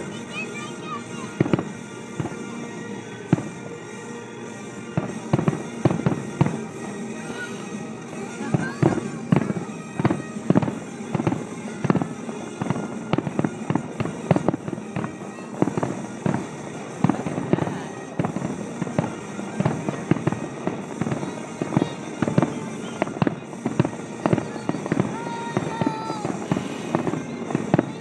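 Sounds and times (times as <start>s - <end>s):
fireworks banging: 0.0s - 28.0s.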